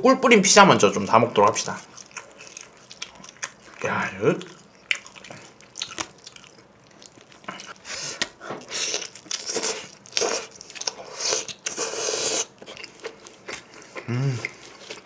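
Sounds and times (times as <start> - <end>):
chewing and biting pizza: 1.3 - 15.0.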